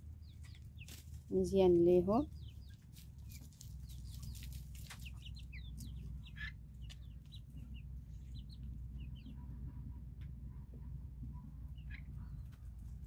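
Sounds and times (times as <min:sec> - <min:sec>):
chickens calling: 0:00.0 - 0:13.0
chicks peeping: 0:00.0 - 0:13.0.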